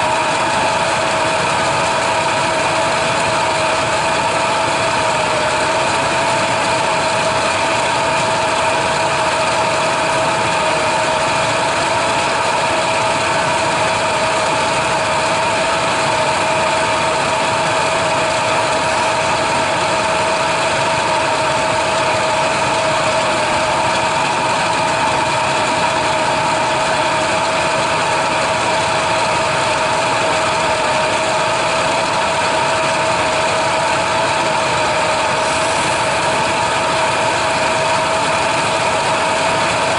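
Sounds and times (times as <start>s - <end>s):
constant whine: 0.0s - 39.9s
pickup truck engine running: 0.0s - 39.9s.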